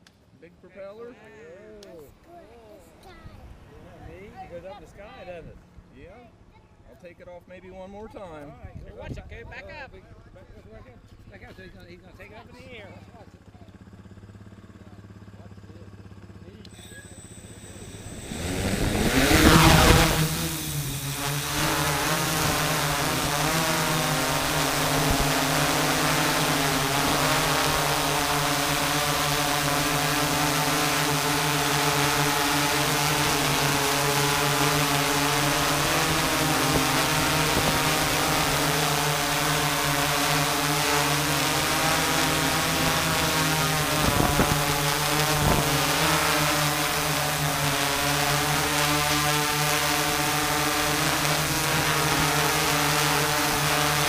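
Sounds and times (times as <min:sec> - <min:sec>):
drone motors humming: 0:10.3 - 0:54.0.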